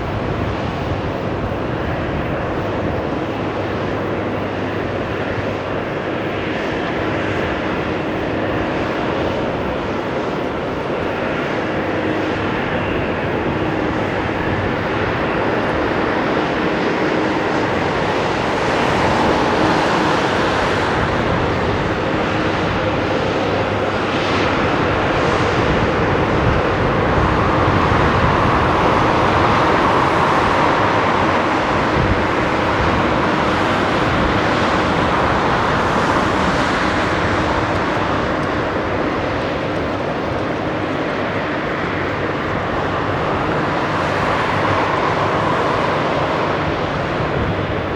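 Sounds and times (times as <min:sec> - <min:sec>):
jet engines roaring: 0:00.0 - 0:47.9.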